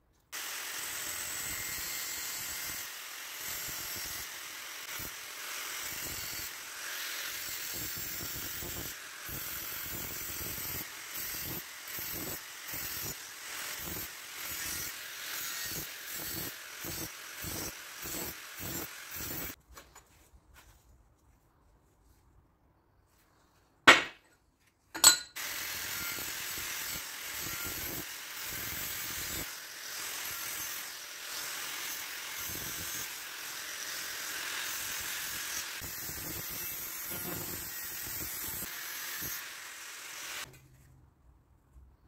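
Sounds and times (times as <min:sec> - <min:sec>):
welding arc hissing: 0:00.4 - 0:19.6, 0:25.4 - 0:40.5.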